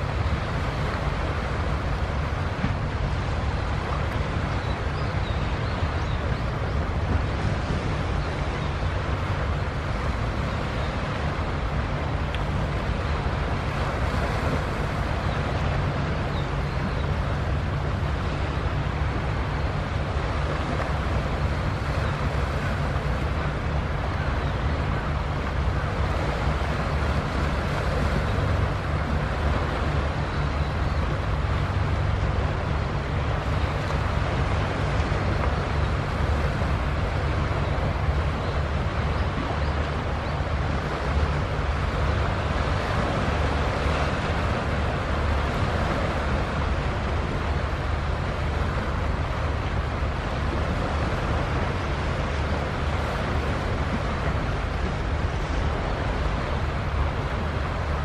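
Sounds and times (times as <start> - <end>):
sea noise: 0.0 - 58.0
wind rumbling on microphone: 0.0 - 58.0.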